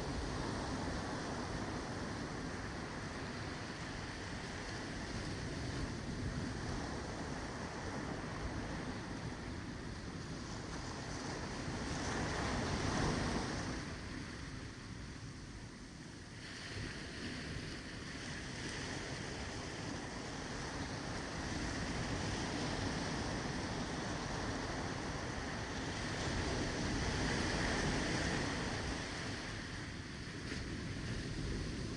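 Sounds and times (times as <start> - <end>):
ocean waves breaking: 0.0 - 31.9.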